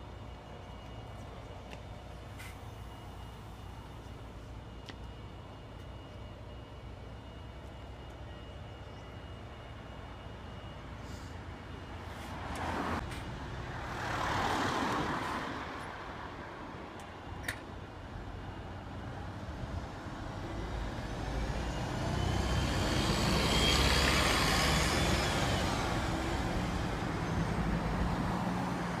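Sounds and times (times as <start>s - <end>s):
bus engine idling and pulling away: 0.0s - 29.0s.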